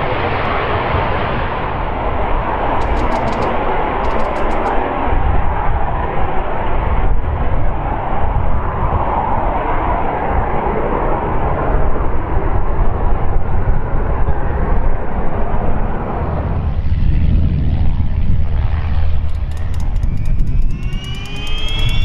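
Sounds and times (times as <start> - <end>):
jet roar: 0.0 - 22.0.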